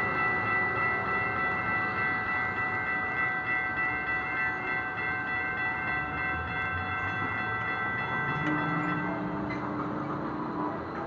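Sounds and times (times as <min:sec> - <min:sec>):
train high-pitched whine: 0:00.0 - 0:11.0.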